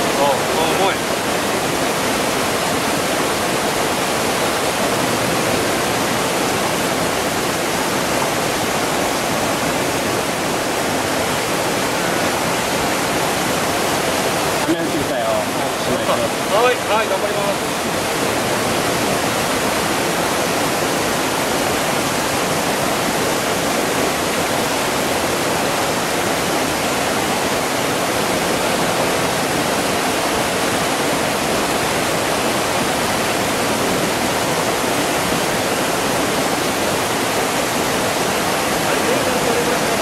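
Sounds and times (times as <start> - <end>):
river water rushing over a weir: 0.0 - 40.0.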